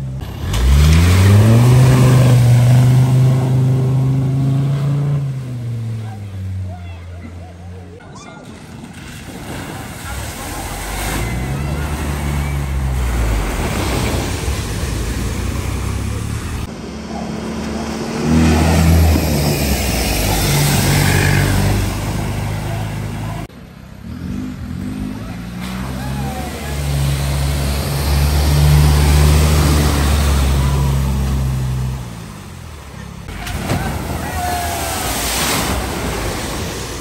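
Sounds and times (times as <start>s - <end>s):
car engines under load: 0.0s - 37.0s
water rushing and splashing: 0.0s - 37.0s.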